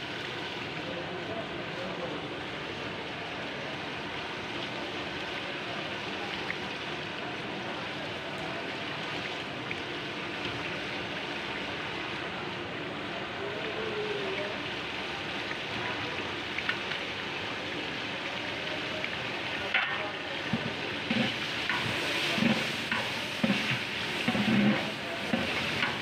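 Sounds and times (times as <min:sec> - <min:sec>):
pot boiling hard: 0:00.0 - 0:26.0.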